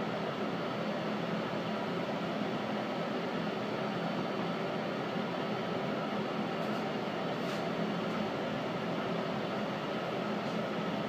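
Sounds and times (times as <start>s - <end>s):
subway car ventilation hum: 0.0s - 11.0s.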